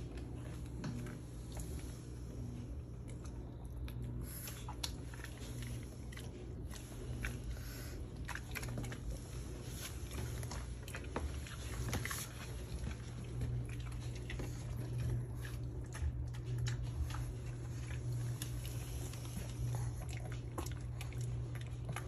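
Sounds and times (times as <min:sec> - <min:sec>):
dog crunching carrot: 0:03.0 - 0:22.0.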